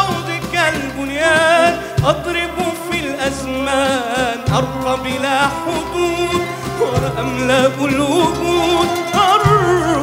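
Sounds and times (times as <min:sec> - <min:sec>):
man singing ornamented vocal: 0:00.0 - 0:10.0.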